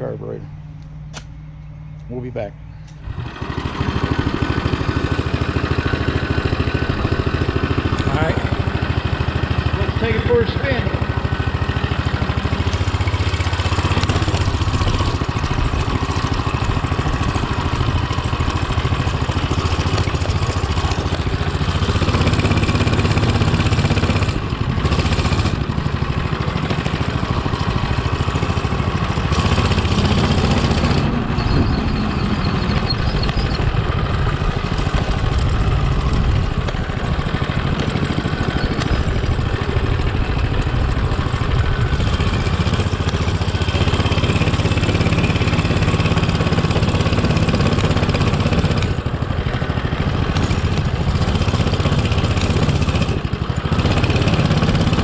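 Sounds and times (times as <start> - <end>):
mini bike engine revving: 3.0 - 55.0.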